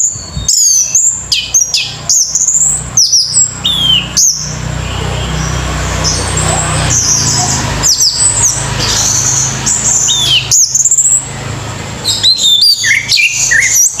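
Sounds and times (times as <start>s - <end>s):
thrush singing: 0.0s - 14.0s.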